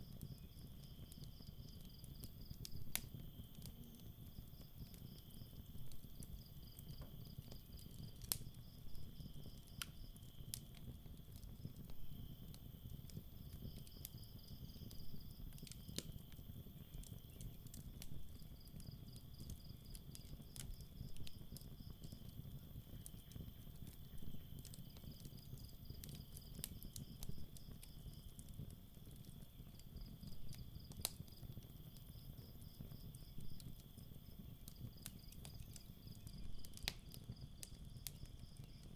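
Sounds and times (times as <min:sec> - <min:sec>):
crickets trilling: 0:00.0 - 0:10.8, 0:11.5 - 0:28.6, 0:29.2 - 0:38.9
campfire crackling and popping: 0:00.0 - 0:38.9.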